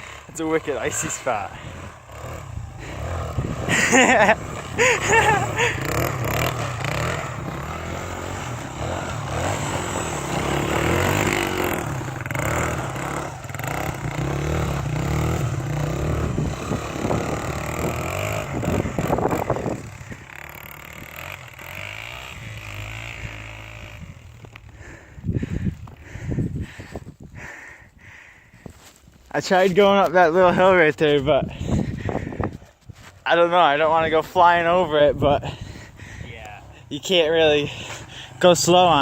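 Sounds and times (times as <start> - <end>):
dirt bike engine revving: 0.0 - 26.3, 33.4 - 39.0.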